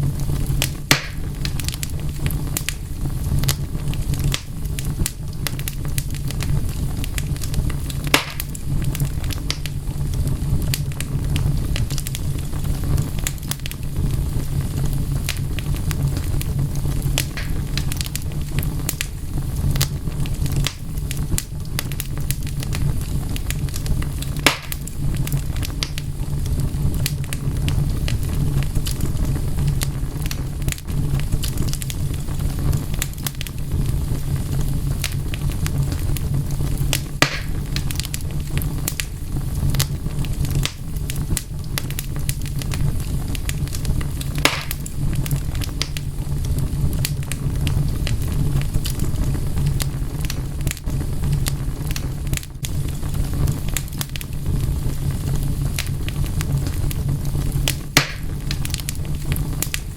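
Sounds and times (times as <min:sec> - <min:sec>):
loud fire snaps: 0:00.0 - 0:59.9
low rumble of burning: 0:00.0 - 0:59.9
wood fire crackling: 0:00.0 - 0:59.9.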